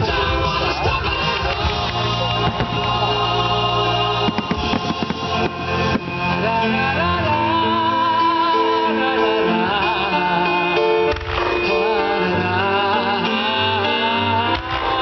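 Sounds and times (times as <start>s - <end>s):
person singing with vibrato: 0.0s - 15.0s
sustained instrumental notes: 0.0s - 15.0s.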